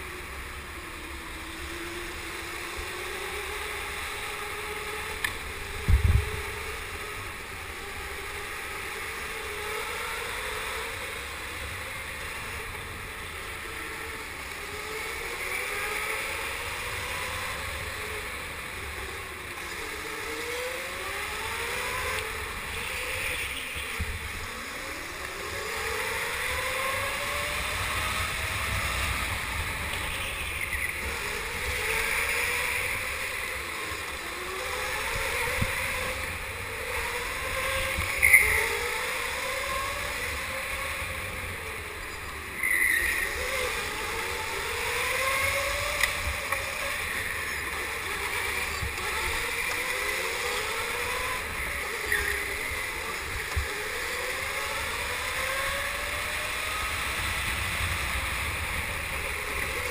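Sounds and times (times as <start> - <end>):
go-kart motor whine: 0.0 - 59.9
steady rushing noise: 0.0 - 59.9.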